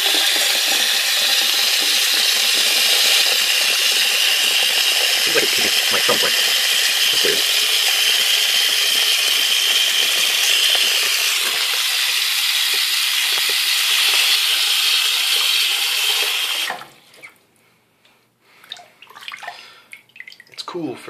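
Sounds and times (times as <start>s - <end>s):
faucet water splashing on plastic: 0.0s - 17.3s, 18.7s - 20.7s.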